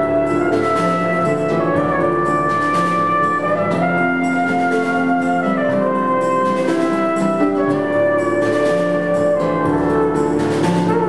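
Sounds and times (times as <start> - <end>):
brass horn melody: 0.0 - 11.0
stage keyboard melody: 0.0 - 11.0.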